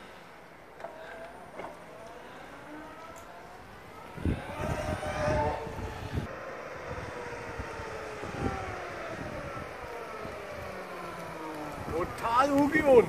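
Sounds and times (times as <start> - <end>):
electric motorcycle motor whine: 0.8 - 13.0.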